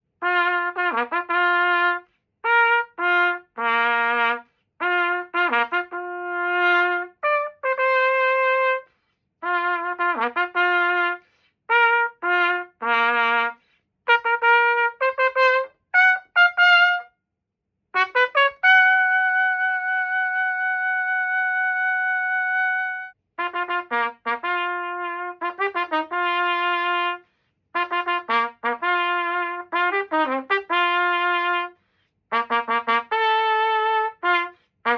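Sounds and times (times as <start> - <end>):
trumpet playing short phrases: 0.2 - 17.1, 18.0 - 27.2, 27.8 - 34.9.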